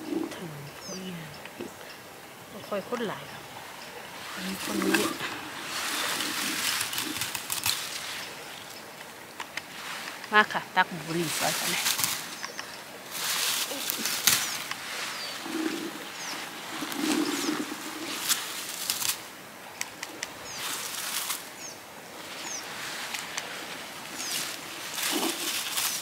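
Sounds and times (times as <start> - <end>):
comb rustling through bushes: 2.5 - 26.0.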